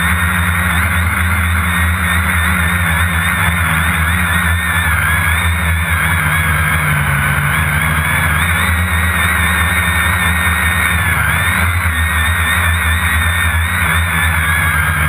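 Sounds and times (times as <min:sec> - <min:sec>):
drone motors humming and whining: 0:00.0 - 0:15.0.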